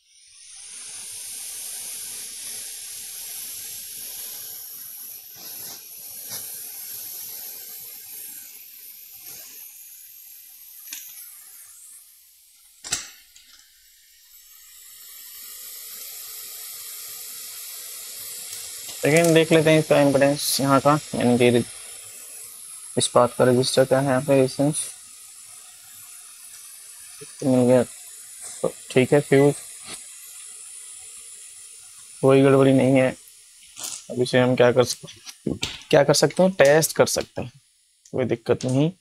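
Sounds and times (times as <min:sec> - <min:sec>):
hot air station hissing: 0:00.0 - 0:39.0.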